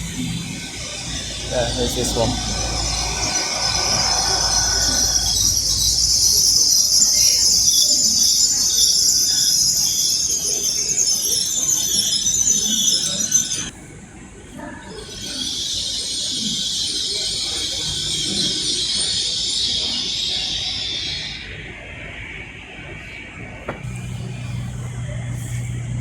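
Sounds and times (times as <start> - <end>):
train wheels squealing on rails: 0.0 - 24.7.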